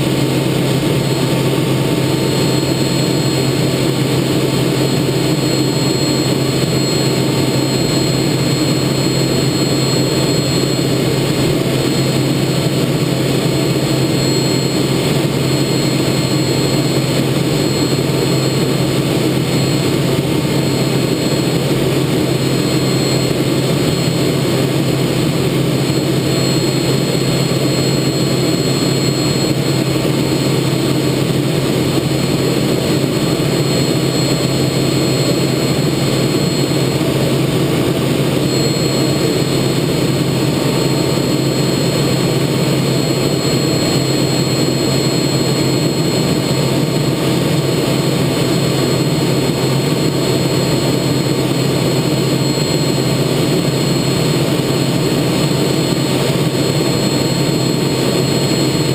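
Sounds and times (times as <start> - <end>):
faint high whine: 0.0 - 58.9
jet engine noise in cockpit: 0.0 - 58.9.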